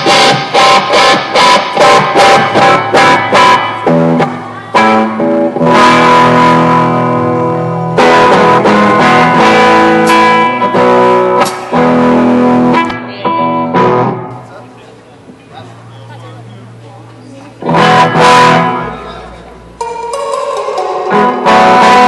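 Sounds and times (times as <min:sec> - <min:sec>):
amplified electric guitar chords: 0:00.0 - 0:14.6, 0:15.8 - 0:22.0.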